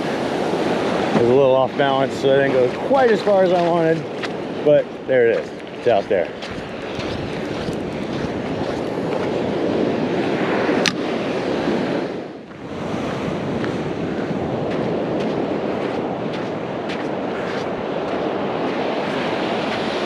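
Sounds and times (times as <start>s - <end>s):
ocean surf washing ashore: 0.0s - 20.0s
wind buffeting microphone: 0.0s - 20.0s.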